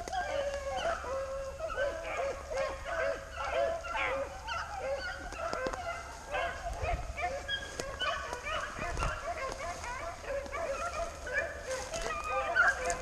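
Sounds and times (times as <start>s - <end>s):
hounds baying and yelping: 0.0s - 13.0s.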